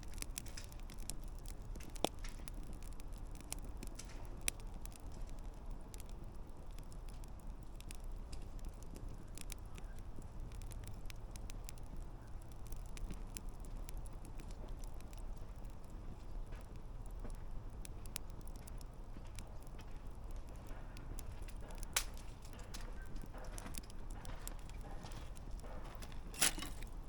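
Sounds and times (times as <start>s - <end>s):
campfire crackling: 0.0s - 27.0s
sharp fire pops: 0.0s - 27.0s.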